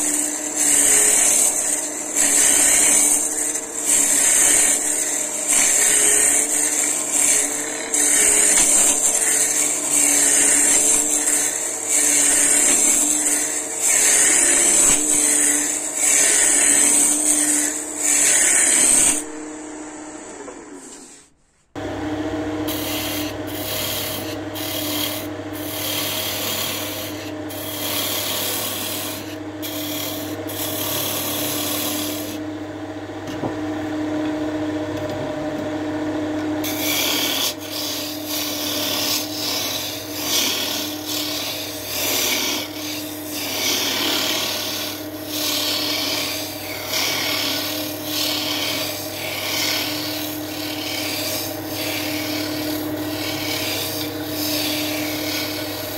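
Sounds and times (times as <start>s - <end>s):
tool rasping against spinning wood: 0.0s - 19.4s, 22.6s - 32.4s, 36.6s - 55.9s
wood lathe humming: 0.0s - 55.9s.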